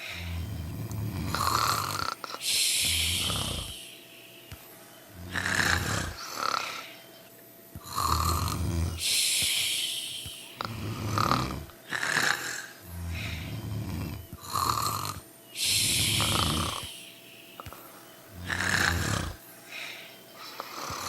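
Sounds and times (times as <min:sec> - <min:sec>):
person snoring: 0:00.0 - 0:04.3, 0:05.1 - 0:07.0, 0:07.8 - 0:21.0
airy hissing breath: 0:00.0 - 0:07.1, 0:07.8 - 0:21.0.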